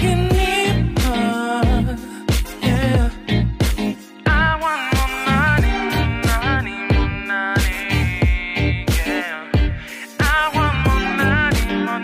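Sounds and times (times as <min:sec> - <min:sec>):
drum beat: 0:00.0 - 0:12.0
wavering melody: 0:00.0 - 0:12.0.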